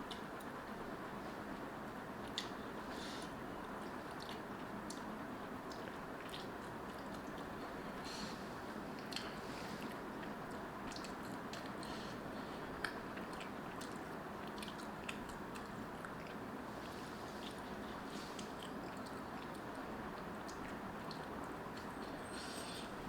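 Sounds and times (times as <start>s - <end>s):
background hiss: 0.0s - 23.0s
person chewing noodles: 2.2s - 23.0s.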